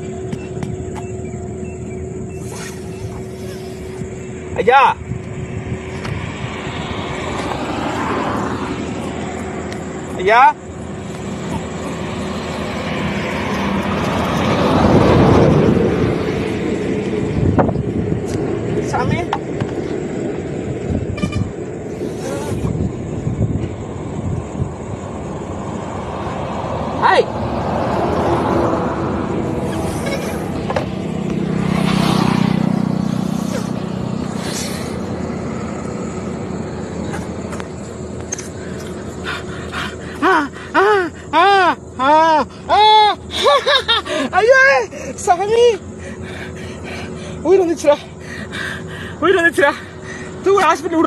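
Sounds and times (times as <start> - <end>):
road noise: 0.0 - 51.0
vehicle passing by: 0.0 - 51.0.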